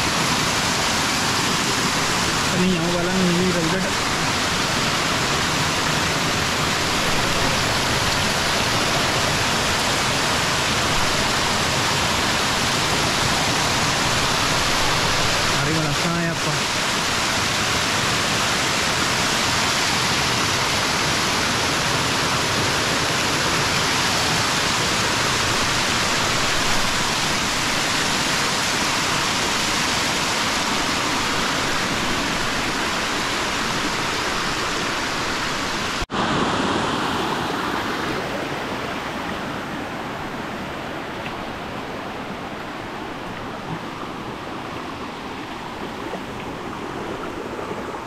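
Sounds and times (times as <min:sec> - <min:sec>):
water pouring down waterfall: 0:00.0 - 0:39.3.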